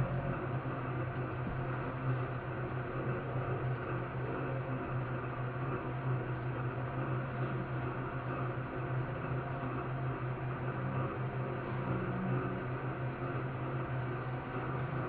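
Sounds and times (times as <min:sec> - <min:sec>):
stand mixer motor humming: 0:00.0 - 0:15.0.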